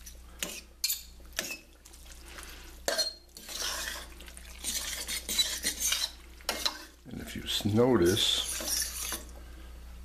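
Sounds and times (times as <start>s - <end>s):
fork stirring wet chicken: 0.0s - 9.4s.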